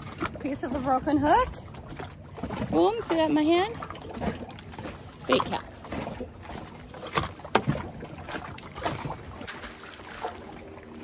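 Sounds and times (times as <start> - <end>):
water lapping against a dock: 0.0 - 11.0.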